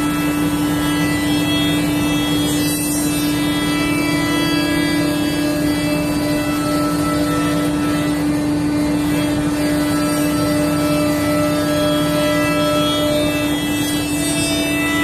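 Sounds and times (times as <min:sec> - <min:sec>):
cnc router humming: 0:00.0 - 0:15.0.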